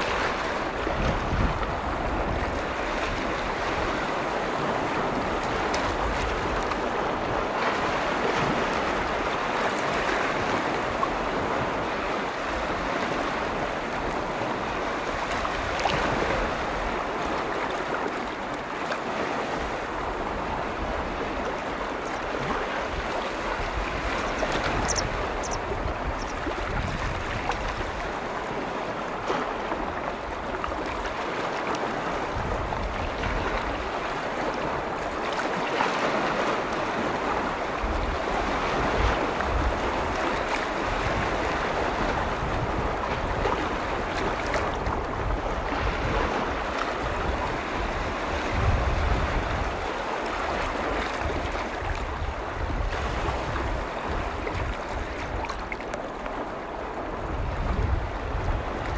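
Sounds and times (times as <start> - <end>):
lake waves washing: 0.0 - 58.9.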